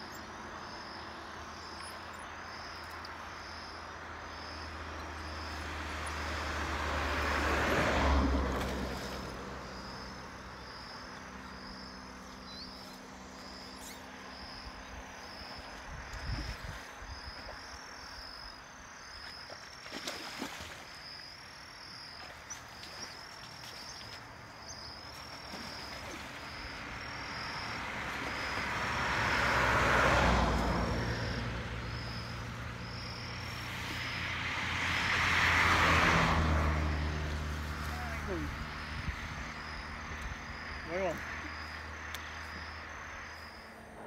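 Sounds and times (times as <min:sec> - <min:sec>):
distant vehicles passing: 0:00.0 - 0:44.0.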